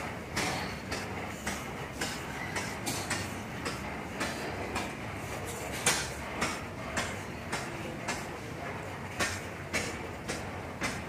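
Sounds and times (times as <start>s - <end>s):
steam engine exhaust chuffing: 0.0s - 11.0s.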